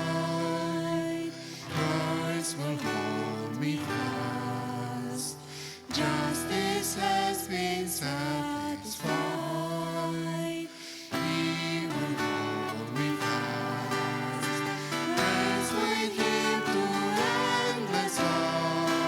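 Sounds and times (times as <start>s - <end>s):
acoustic guitar: 0.0s - 19.0s
congregation singing a hymn: 0.0s - 19.0s.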